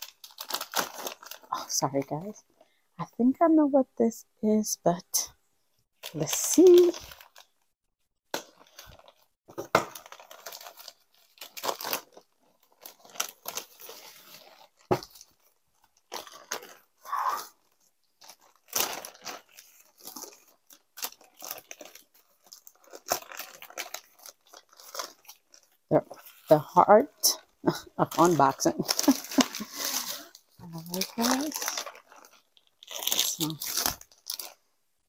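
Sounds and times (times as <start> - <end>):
plastic and bubble wrap crinkling: 0.0 - 2.8, 6.0 - 7.7, 8.3 - 34.9.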